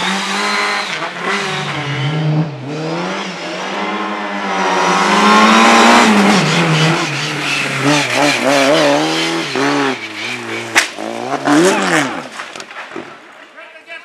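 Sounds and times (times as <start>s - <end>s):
racing car engine revving: 0.0s - 12.7s.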